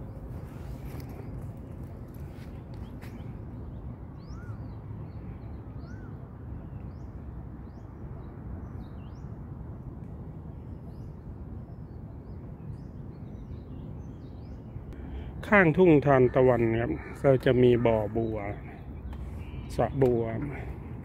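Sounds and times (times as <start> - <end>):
small birds chirping: 0.0 - 9.4, 10.6 - 21.0.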